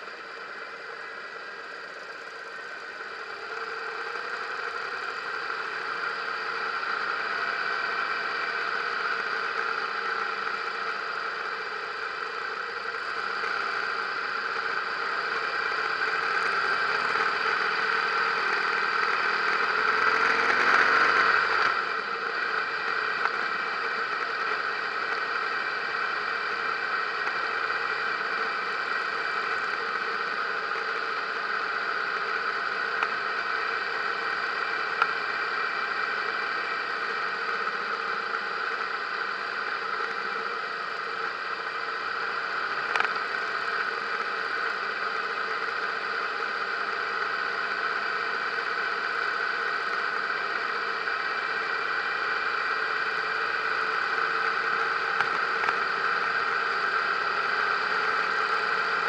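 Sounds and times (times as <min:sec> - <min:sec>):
motorcycle engine cruising: 0:00.0 - 0:59.0
road noise: 0:00.0 - 0:59.0.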